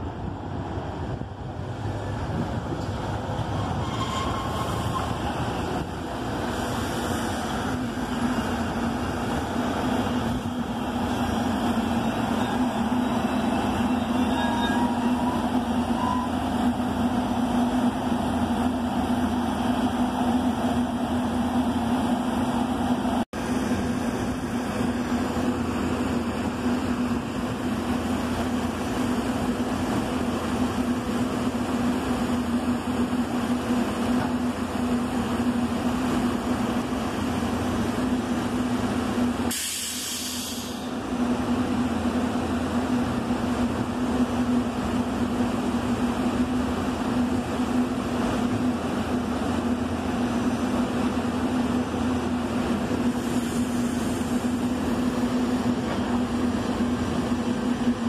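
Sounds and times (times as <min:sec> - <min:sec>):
electric train rumbling past: 0:00.0 - 0:58.0.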